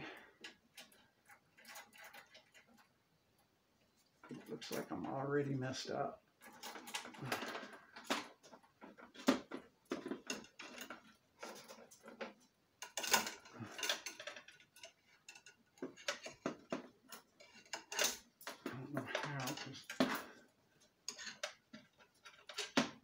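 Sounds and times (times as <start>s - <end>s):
metal parts clicking and tapping: 0.3s - 3.0s, 6.4s - 23.0s.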